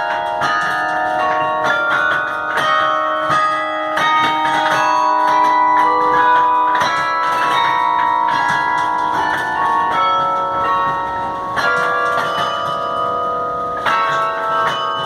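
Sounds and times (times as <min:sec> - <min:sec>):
carillon bells playing melody: 0:00.0 - 0:15.0.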